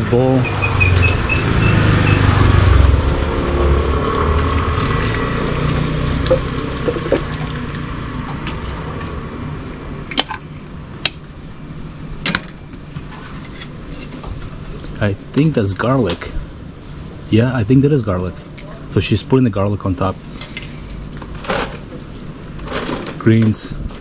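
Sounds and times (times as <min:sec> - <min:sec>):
low rumble with hiss: 0:00.0 - 0:24.0.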